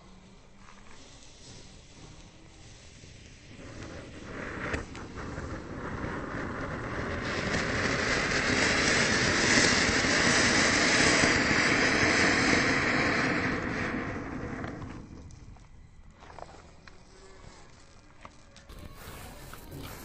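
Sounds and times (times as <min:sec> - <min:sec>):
firework spraying sparks hissing: 0:00.0 - 0:15.2, 0:17.0 - 0:20.0.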